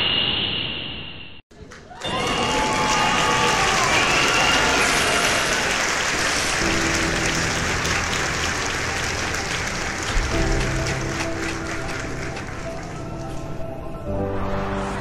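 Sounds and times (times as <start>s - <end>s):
dense crackling clapping-like noise: 1.5s - 13.6s.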